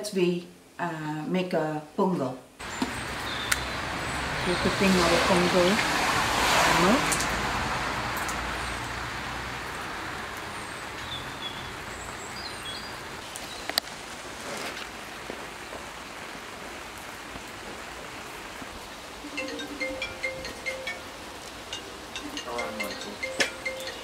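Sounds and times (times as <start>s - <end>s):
steady rain: 2.6s - 24.0s.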